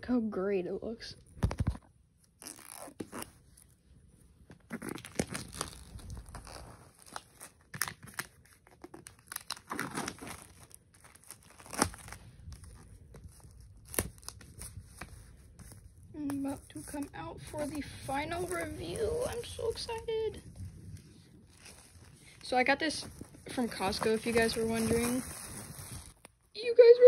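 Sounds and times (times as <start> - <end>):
plastic shrink-wrap crinkling and tearing: 1.4 - 3.8, 4.4 - 26.4.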